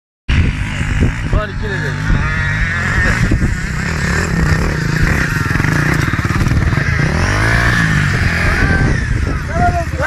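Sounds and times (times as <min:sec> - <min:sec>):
dirt bike engine under load: 0:00.3 - 0:10.0.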